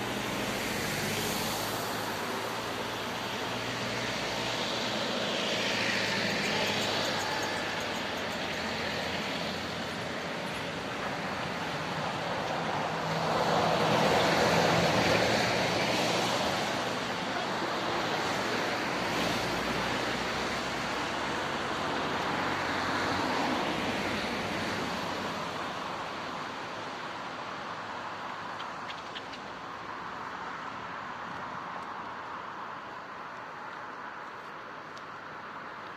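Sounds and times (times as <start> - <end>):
traffic tyre hiss on wet road: 0.0 - 35.9.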